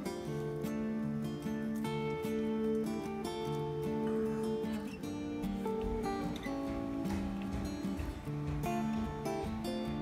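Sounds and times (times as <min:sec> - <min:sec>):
acoustic guitar strumming and picking: 0:00.0 - 0:10.0.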